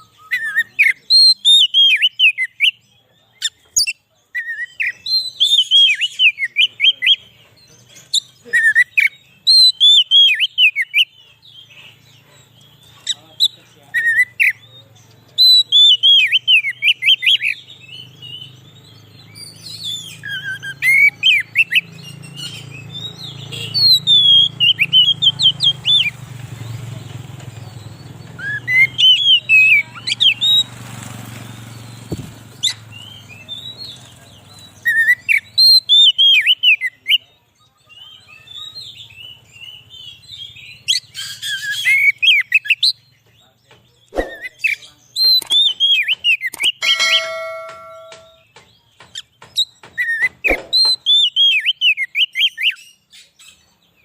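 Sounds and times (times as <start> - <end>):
bird singing whistled notes: 0.0 - 7.2, 8.0 - 26.9, 27.5 - 30.8, 31.4 - 43.3, 44.0 - 48.6, 49.2 - 54.0.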